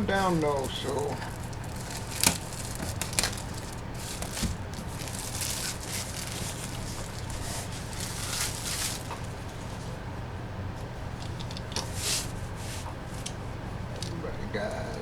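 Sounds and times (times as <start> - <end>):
packaging rustling: 0.0 - 10.0, 11.1 - 13.4
low electrical hum: 0.0 - 15.0.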